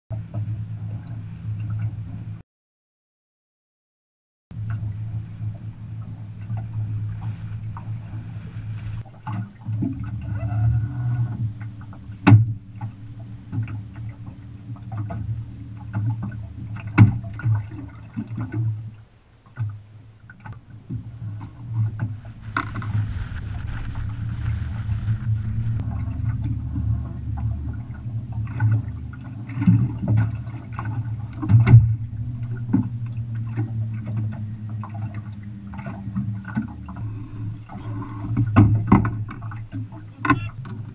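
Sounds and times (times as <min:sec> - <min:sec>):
steady low rumble: 0:00.1 - 0:02.4, 0:04.5 - 0:40.9
water slapping boat hull: 0:00.1 - 0:02.4, 0:04.5 - 0:40.9.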